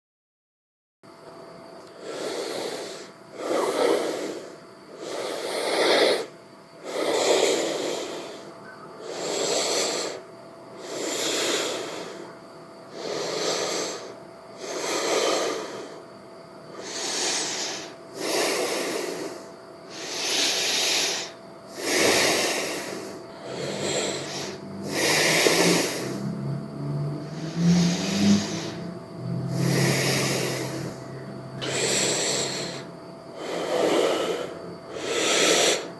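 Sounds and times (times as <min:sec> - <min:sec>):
man breathing heavily: 0:01.9 - 0:16.1, 0:16.7 - 0:35.9.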